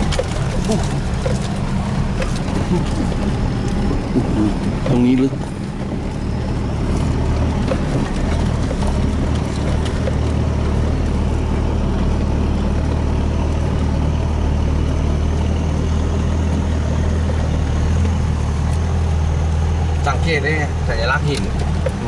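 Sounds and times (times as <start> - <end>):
truck engine running: 0.0 - 22.0
water washing along truck: 0.0 - 22.0.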